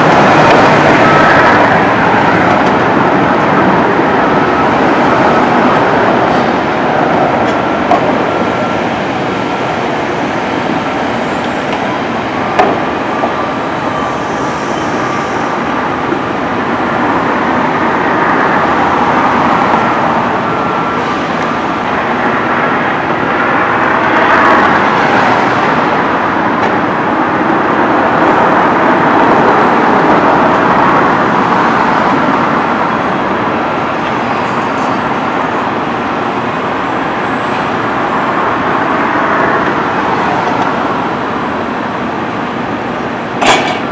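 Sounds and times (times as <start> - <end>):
moving vehicle rushing noise: 0.0 - 43.9.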